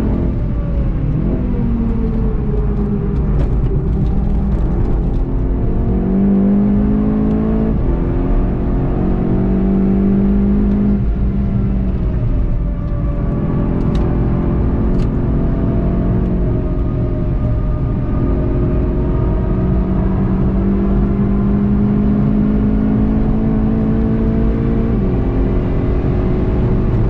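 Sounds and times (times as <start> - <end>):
car engine revving: 0.0 - 27.0
road rumble: 0.0 - 27.0.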